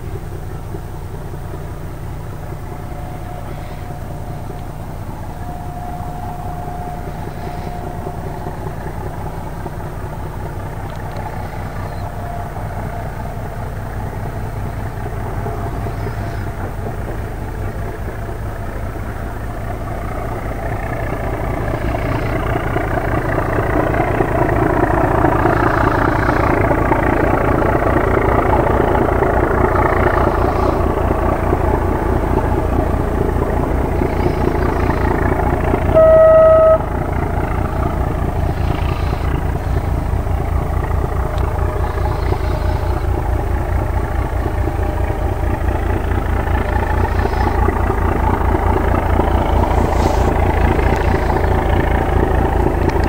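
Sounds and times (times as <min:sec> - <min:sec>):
diesel locomotive engine: 0:00.0 - 0:53.0
locomotive horn blast: 0:02.2 - 0:17.4, 0:18.2 - 0:52.9.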